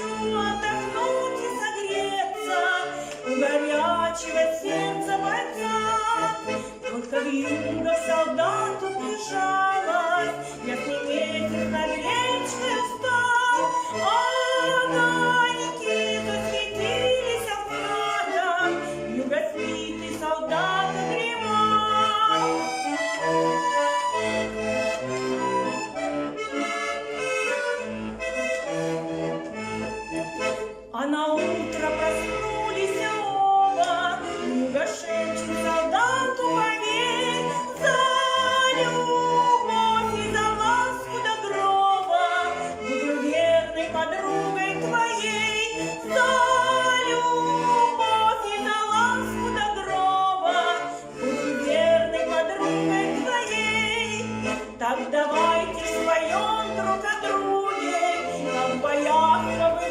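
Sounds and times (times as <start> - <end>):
accordion playing: 0.0 - 59.9.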